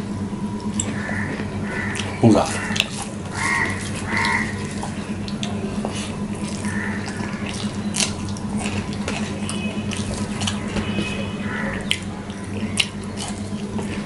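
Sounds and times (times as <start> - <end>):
steady low hum: 0.0 - 14.0
wet squelching of food mixed by hand: 0.7 - 14.0.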